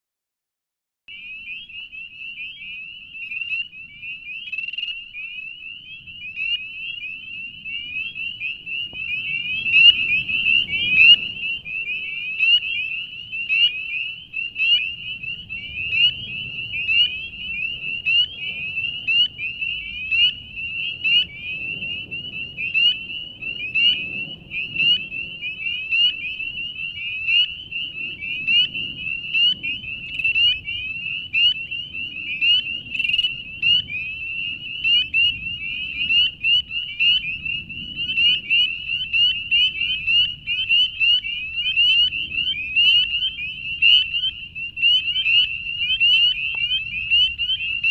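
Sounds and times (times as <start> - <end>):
spring peepers chorus: 1.1 - 47.9.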